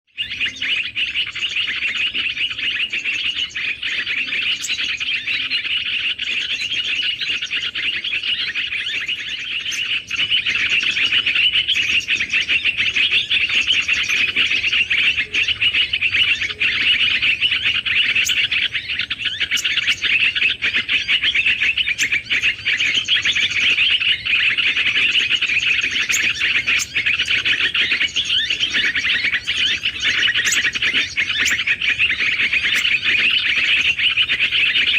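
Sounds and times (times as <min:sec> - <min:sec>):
many small birds twittering: 0:00.0 - 0:34.9.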